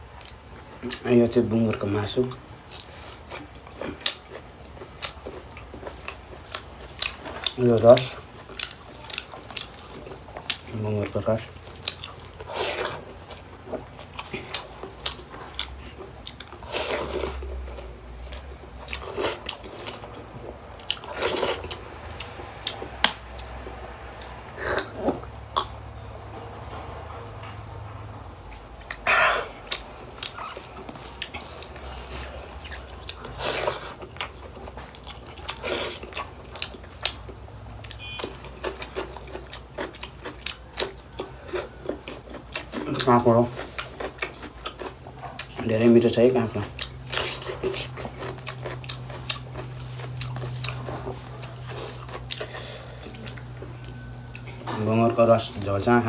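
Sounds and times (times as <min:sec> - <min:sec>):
person chewing and biting food: 0:01.8 - 0:25.8, 0:28.5 - 0:56.0.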